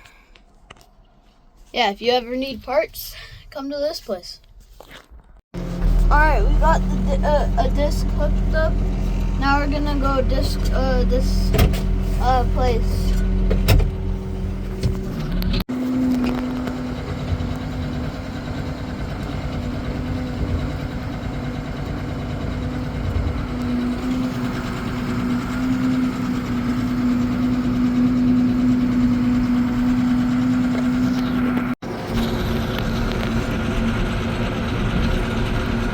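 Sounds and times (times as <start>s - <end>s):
tractor diesel engine droning: 5.6s - 35.9s.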